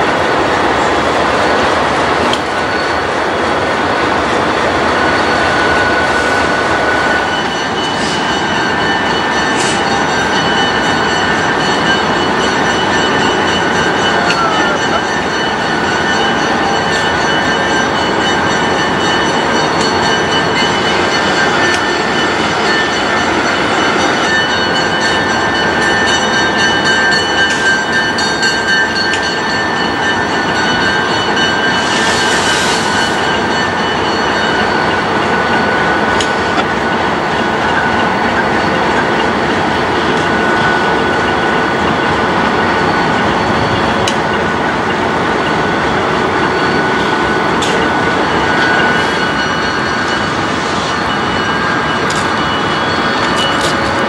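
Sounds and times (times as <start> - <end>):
diesel locomotive engines droning: 0.0 - 54.0
steady high tones: 0.4 - 54.0.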